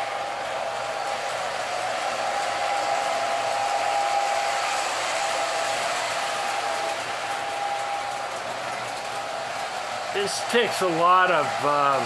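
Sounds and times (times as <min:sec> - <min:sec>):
toy train motor whirring: 0:00.0 - 0:12.0
toy train wheels on rails: 0:00.0 - 0:12.0.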